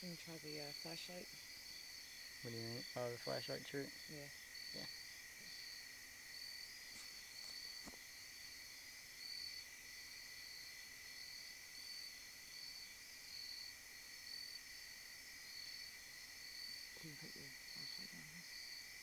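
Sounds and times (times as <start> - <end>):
constant insect buzz: 0.0 - 19.0
crickets chirping: 0.0 - 19.0.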